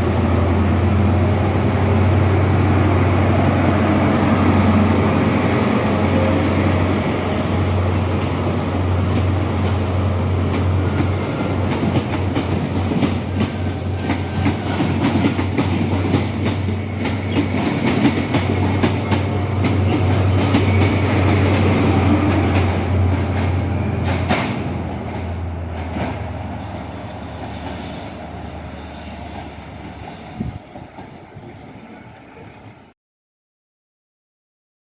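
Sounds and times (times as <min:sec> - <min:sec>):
diesel train drone: 0:00.0 - 0:33.0.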